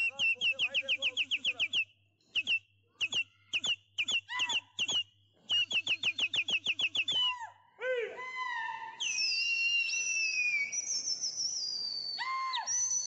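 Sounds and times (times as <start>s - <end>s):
bird chirping: 0.0s - 7.4s, 9.0s - 13.0s.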